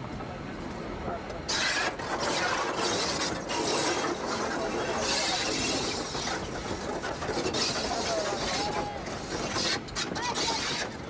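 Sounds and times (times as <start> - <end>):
locomotive mechanical clatter: 0.0 - 11.0.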